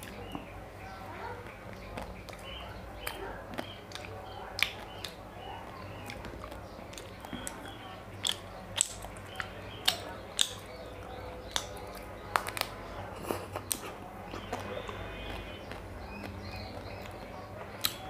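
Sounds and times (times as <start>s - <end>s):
chewing and wet mouth sounds: 0.0s - 18.0s.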